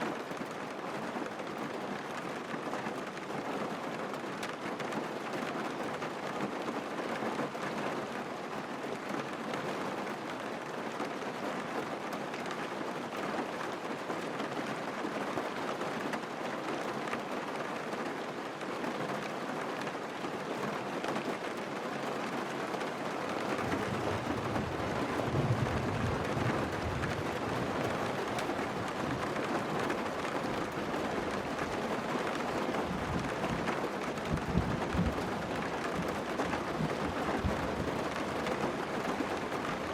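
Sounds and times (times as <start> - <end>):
rain hitting a car: 0.1 - 39.9.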